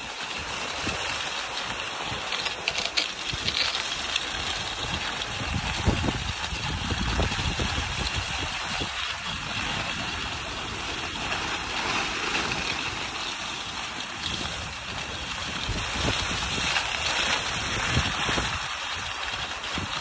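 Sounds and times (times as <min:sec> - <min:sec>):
steady rushing hiss: 0:00.0 - 0:20.0
wind buffeting microphone: 0:00.0 - 0:20.0.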